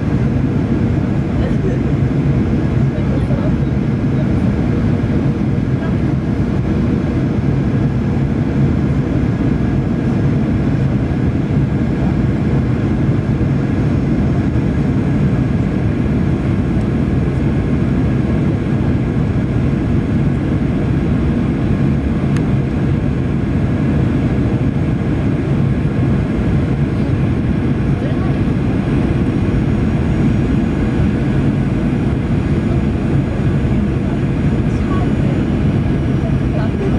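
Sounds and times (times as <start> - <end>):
jet airliner cabin drone: 0.0 - 36.9.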